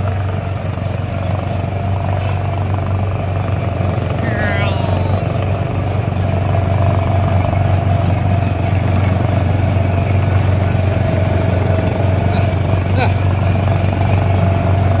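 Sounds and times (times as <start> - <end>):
ride car motor humming and whining: 0.0 - 15.0.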